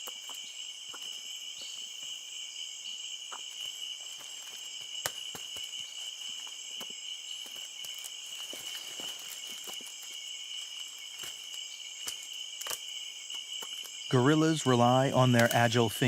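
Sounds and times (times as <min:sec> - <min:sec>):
forest insects droning: 0:00.0 - 0:16.0.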